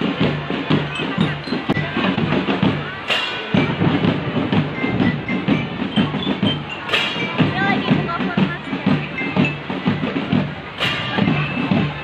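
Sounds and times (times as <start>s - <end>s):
band melody instruments: 0.0s - 12.0s
marching drums beating: 0.0s - 12.0s.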